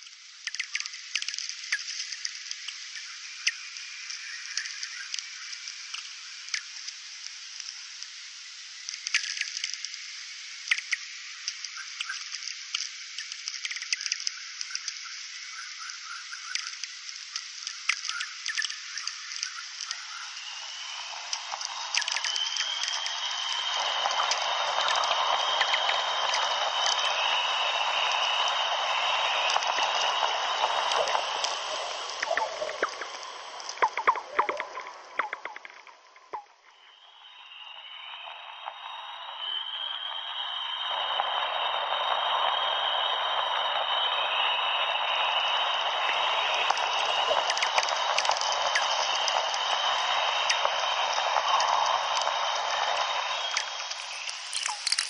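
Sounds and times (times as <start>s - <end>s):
radio hiss with clicks and chirps: 0.0s - 55.0s.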